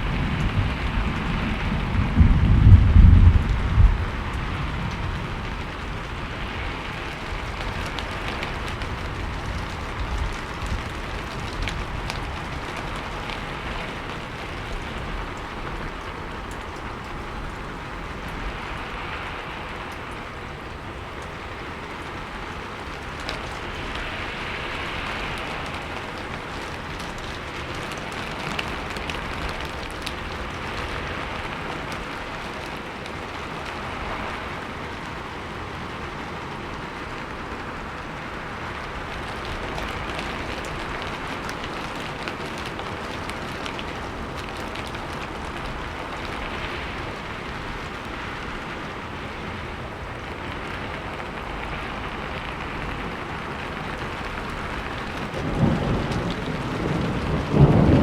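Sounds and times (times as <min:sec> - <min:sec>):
raindrops ticking: 0:00.0 - 0:58.0
steady rainfall hiss: 0:00.0 - 0:58.0.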